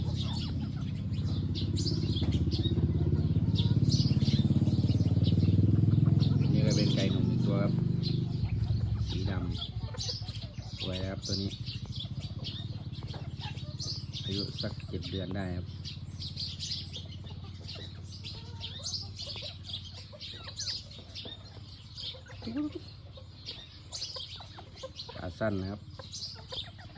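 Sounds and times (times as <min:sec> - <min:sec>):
chickens clucking: 0:00.0 - 0:26.9
high bird chirps: 0:00.0 - 0:26.9
small engine running: 0:00.0 - 0:26.9.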